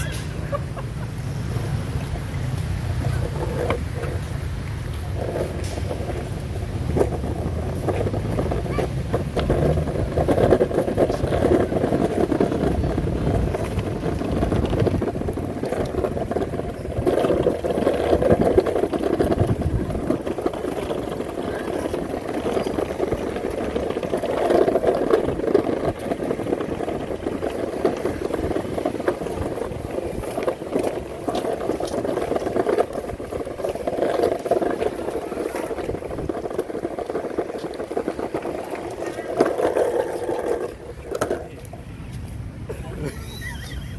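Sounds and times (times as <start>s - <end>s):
skateboard wheels rolling on pavement: 0.0s - 43.9s.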